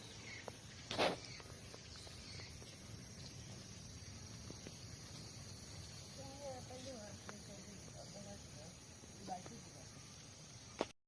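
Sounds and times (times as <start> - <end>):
low background hiss: 0.0 - 10.9
faint high chirps: 0.0 - 11.0
noisy rustle: 0.0 - 11.0.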